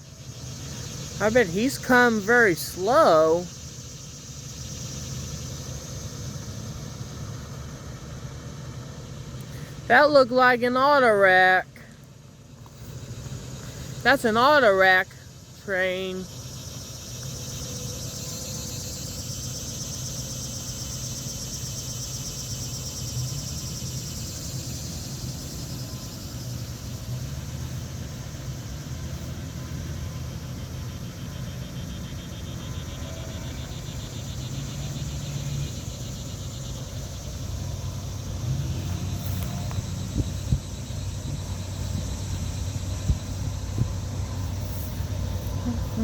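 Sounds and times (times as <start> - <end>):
locomotive engine rumble: 0.0 - 46.0.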